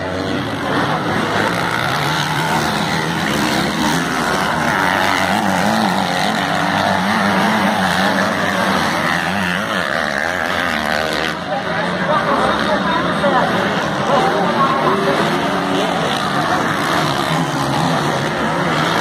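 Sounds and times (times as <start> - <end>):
racing motorcycle engines revving: 0.0 - 19.0.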